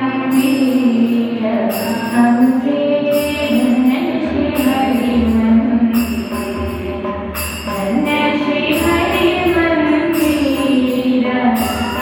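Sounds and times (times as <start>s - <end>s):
jingling percussion: 0.0s - 12.0s.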